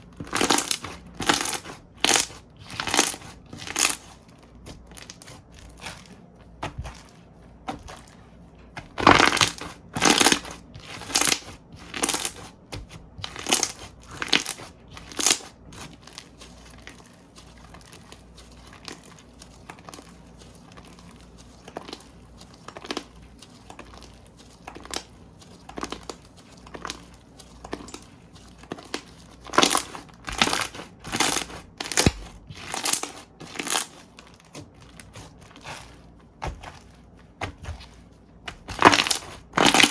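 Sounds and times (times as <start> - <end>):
slime squishing and popping: 0.1 - 7.0, 8.8 - 39.9.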